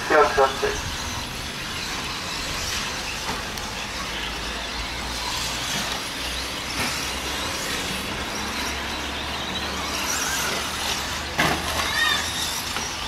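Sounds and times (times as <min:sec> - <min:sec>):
faint whine of electric motors: 0:00.0 - 0:13.0.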